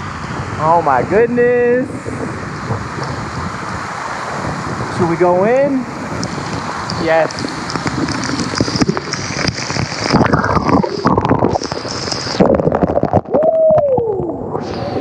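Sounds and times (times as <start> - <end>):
rushing waterfall: 0.0 - 15.0
underwater gurgling: 1.9 - 15.0.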